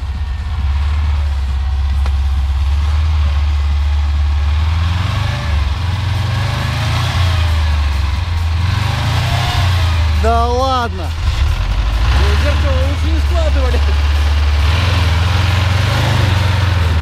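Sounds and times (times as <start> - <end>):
engine running under load: 0.0 - 17.0.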